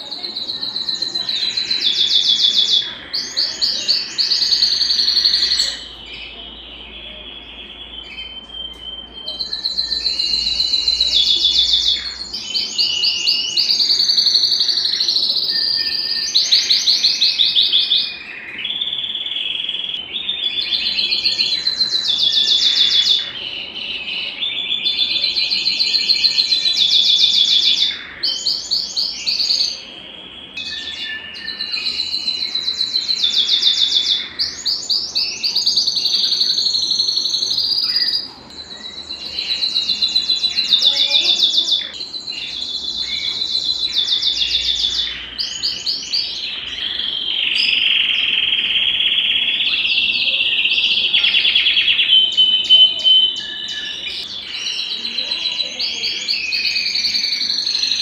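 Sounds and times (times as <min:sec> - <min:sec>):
canary singing rolling trills: 0:00.0 - 0:58.0.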